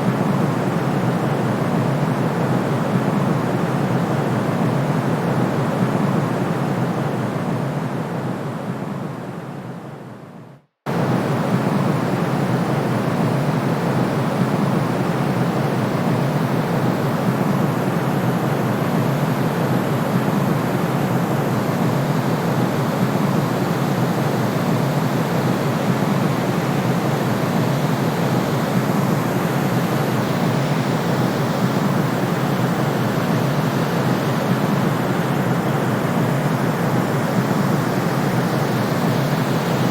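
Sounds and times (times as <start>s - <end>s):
steady white noise: 0.0s - 39.9s.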